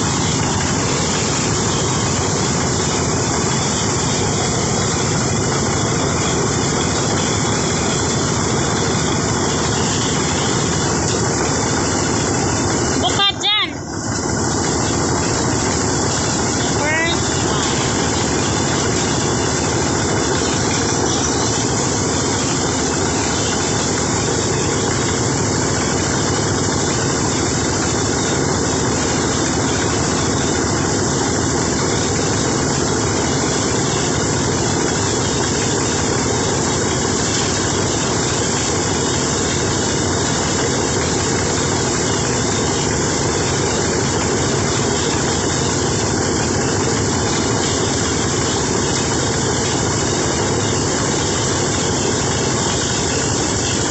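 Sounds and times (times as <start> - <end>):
harvester engine running: 0.0 - 53.9.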